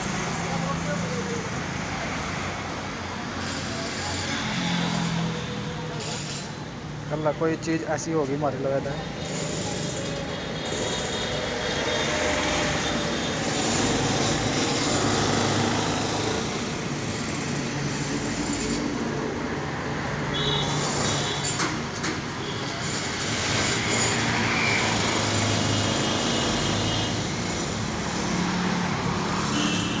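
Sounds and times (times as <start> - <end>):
busy road traffic: 0.0 - 30.0.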